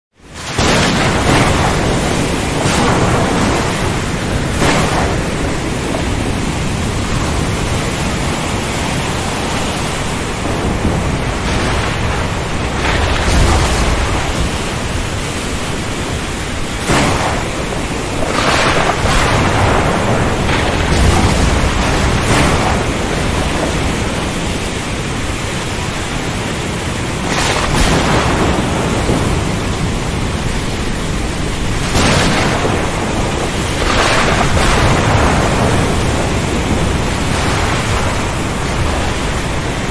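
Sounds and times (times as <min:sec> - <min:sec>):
deep rolling thunder rumbles: 0:00.2 - 0:39.9
wind and waves rushing: 0:00.2 - 0:39.9
sharp thunder cracks: 0:00.4 - 0:26.2, 0:26.8 - 0:39.9.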